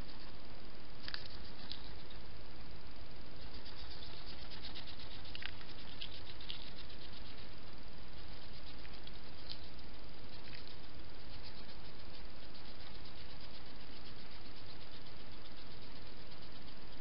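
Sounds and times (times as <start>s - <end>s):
background hiss: 0.0s - 17.0s
hedgehog scratchy rustles: 1.0s - 2.2s, 3.4s - 17.0s.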